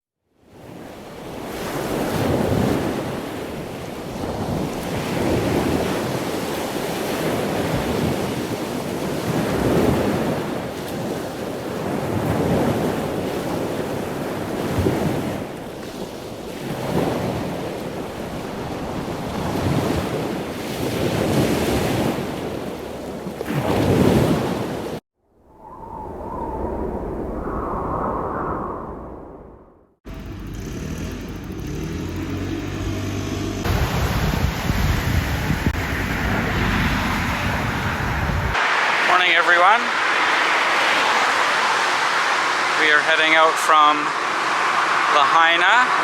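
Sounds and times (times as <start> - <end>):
waves breaking: 0.6 - 25.0, 33.6 - 46.0
wind on microphone: 1.3 - 24.8, 25.4 - 29.9, 33.6 - 46.0.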